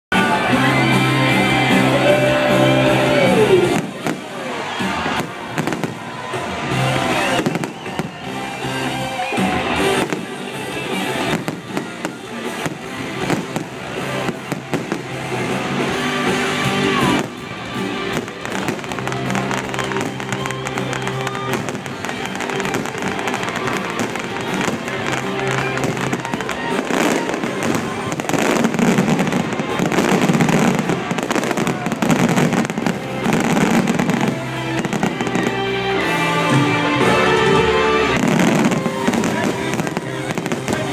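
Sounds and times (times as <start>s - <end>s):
live band playing: 0.1s - 40.9s
fireworks bursting and crackling: 0.2s - 40.9s.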